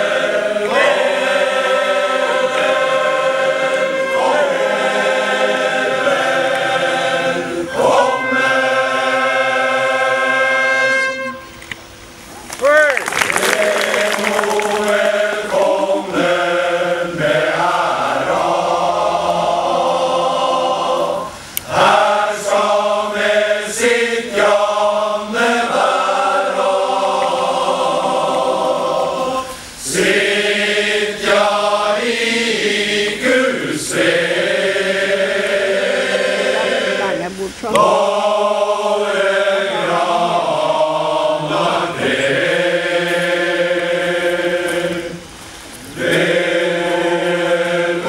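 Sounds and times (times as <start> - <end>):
male choir singing: 0.0 - 11.5, 13.3 - 48.0.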